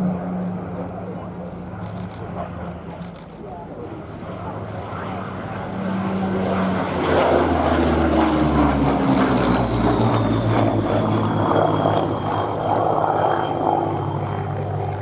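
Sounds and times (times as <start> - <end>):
propeller plane engine flying past: 0.0 - 15.0.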